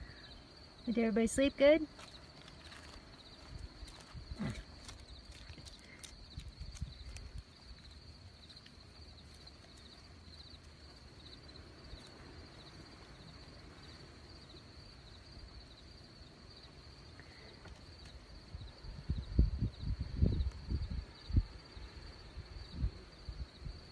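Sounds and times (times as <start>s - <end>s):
insect chirping: 0.0s - 23.9s.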